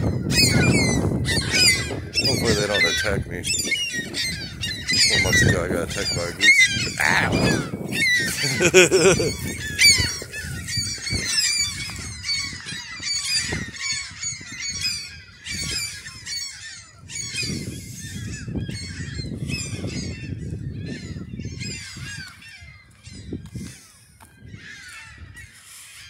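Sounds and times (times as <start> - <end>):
gulls calling: 0.0 - 26.0.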